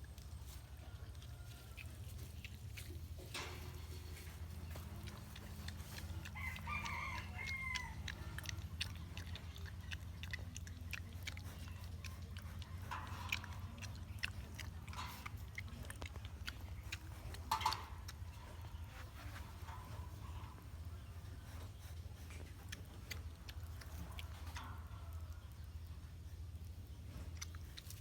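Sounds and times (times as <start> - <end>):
animals chewing leaves: 0.0 - 28.0
low steady hum: 0.0 - 28.0.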